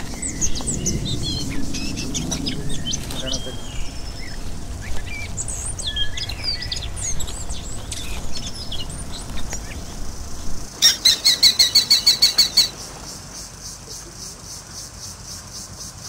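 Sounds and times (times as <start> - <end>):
rapid run of high bird notes: 0.0 - 13.9
birds chirping: 0.0 - 16.0.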